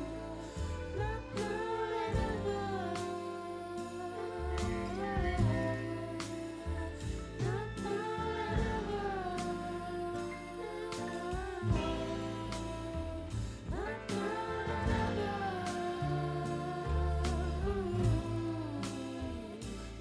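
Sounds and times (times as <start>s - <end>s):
rock song with singing: 0.0s - 20.0s.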